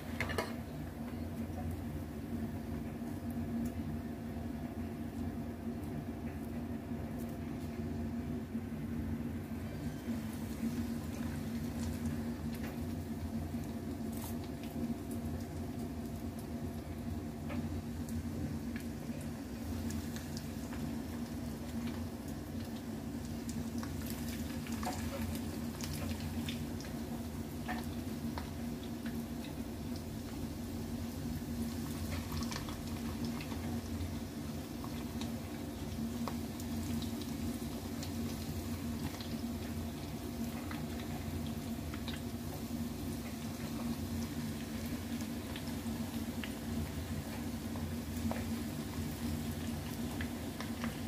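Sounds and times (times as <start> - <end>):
kitchen appliance hum: 0.0 - 51.0.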